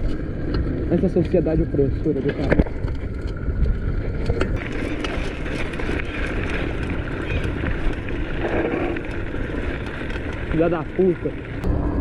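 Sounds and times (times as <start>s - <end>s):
bike clicks and rattles: 0.0s - 11.7s
bike tyre and drivetrain noise: 0.0s - 12.0s.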